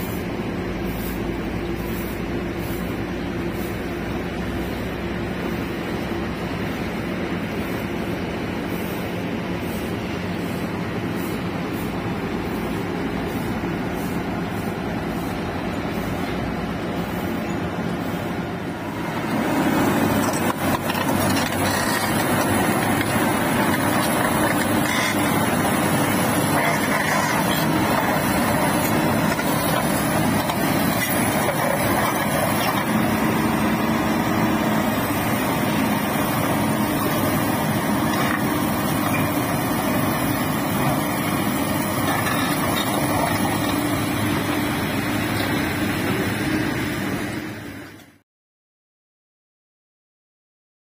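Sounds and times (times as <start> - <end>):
diesel engine running: 0.0 - 48.2.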